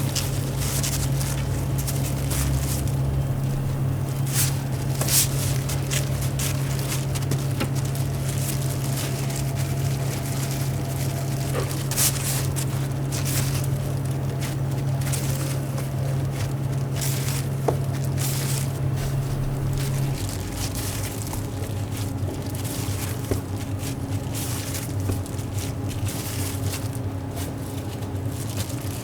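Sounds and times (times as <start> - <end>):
hot oil crackling in fryer: 0.0 - 29.0
kitchen equipment hum: 0.0 - 29.0.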